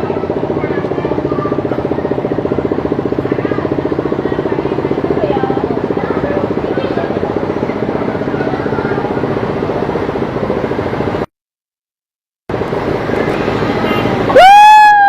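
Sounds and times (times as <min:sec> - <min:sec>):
vehicle engine running: 0:00.0 - 0:11.3, 0:12.5 - 0:15.0.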